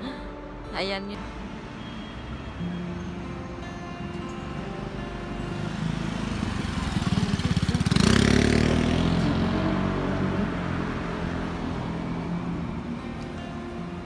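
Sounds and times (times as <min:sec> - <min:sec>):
motor scooter passing: 0:01.7 - 0:14.0.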